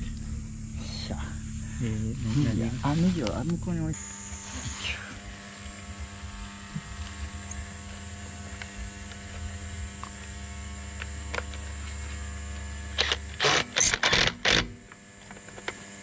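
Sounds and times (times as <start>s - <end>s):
steady mechanical drone: 0.0s - 16.0s.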